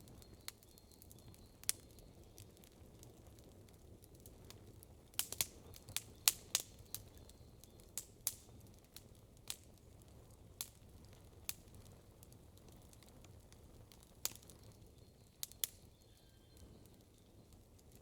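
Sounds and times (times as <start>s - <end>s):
campfire wood crackling: 0.0s - 18.0s.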